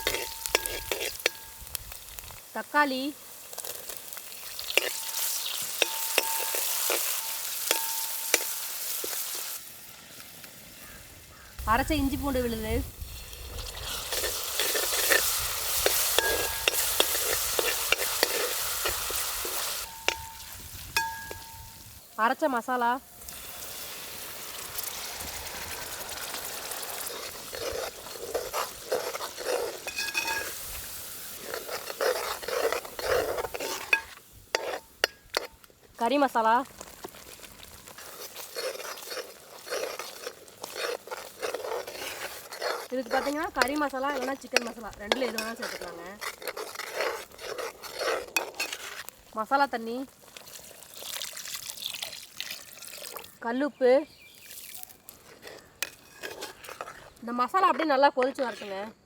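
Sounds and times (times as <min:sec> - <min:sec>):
spoon stirring and scraping: 0:00.0 - 0:02.4, 0:03.4 - 0:09.6, 0:12.3 - 0:21.9, 0:24.6 - 0:53.3, 0:54.2 - 0:59.0
vegetables sizzling in hot oil: 0:00.0 - 0:53.4.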